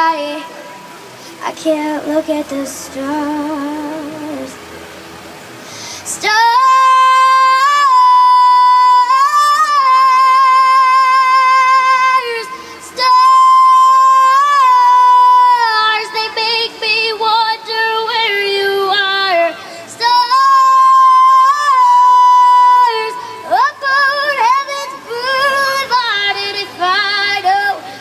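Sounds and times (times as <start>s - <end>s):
woman singing with vibrato: 0.0s - 4.6s, 6.0s - 28.0s.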